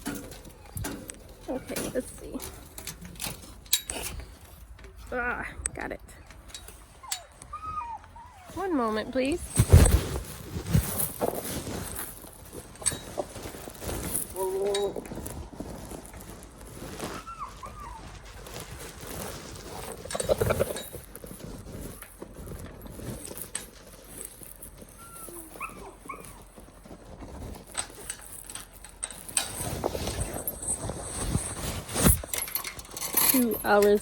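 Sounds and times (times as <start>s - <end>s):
light rustling: 0.0s - 34.0s.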